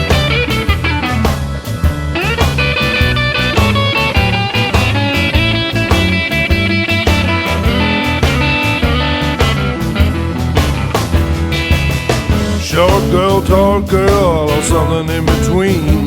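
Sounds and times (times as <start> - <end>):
bass: 0.0 - 16.0
drums with steady beat: 0.0 - 16.0
lead guitar: 0.0 - 16.0.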